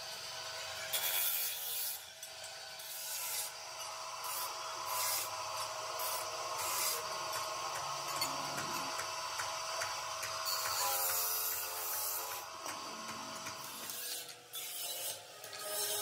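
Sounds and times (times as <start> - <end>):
saw grinding steel tube: 0.0 - 16.0
saw motor humming: 0.0 - 16.0.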